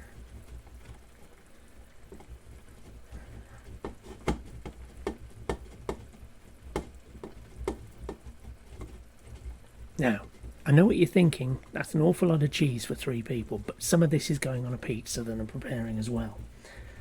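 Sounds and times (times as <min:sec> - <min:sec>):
omelette bubbling in a pan: 0:00.0 - 0:17.0.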